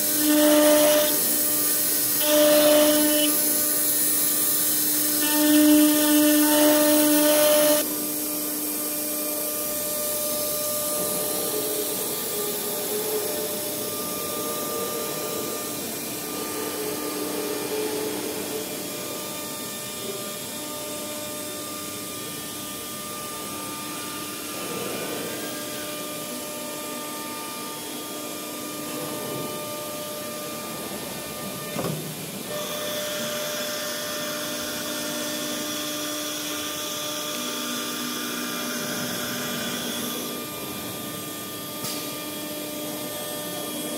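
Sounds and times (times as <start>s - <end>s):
router spindle whining: 0.0s - 43.9s.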